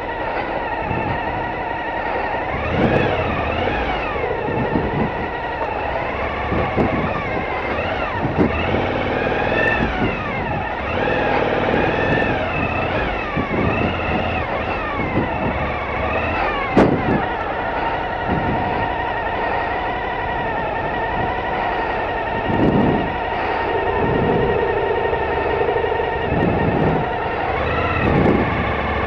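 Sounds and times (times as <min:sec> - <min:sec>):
motorcycle engine revving: 0:00.0 - 0:29.0
steady rushing noise: 0:00.0 - 0:29.0.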